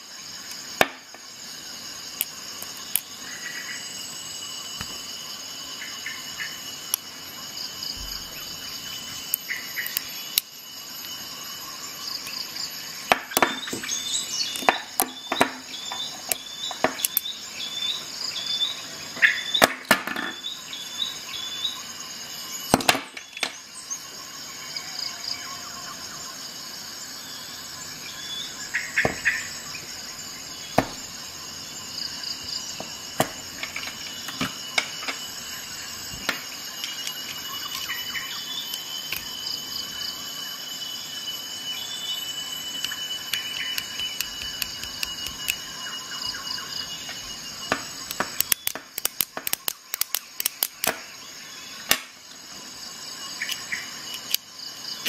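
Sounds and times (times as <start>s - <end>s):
high insect chirring: 0.0s - 55.0s.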